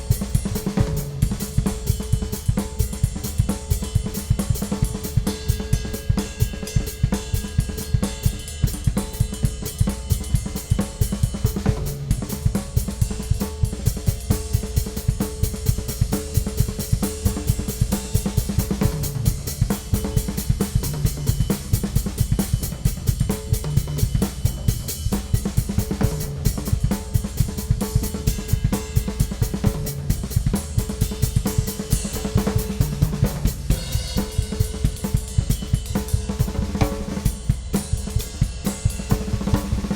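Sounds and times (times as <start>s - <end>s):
drum kit groove: 0.0s - 39.9s.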